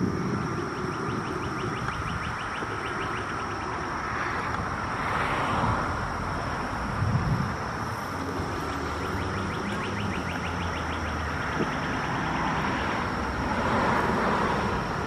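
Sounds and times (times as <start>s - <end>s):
cicada chorus drone: 0.0s - 15.0s.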